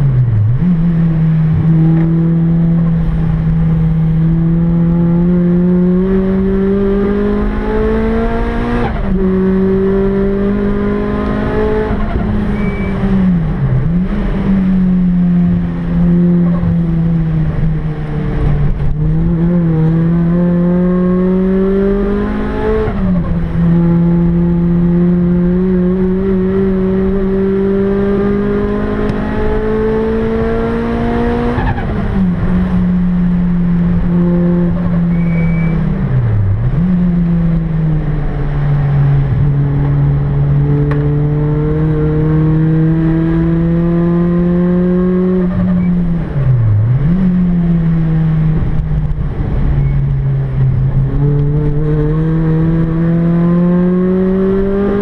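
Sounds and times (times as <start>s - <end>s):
car engine at full throttle: 0.0s - 55.0s.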